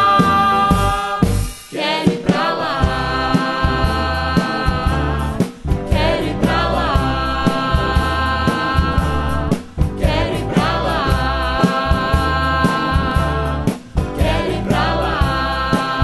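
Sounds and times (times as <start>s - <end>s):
live band playing: 0.0s - 15.4s
people singing: 0.0s - 16.0s.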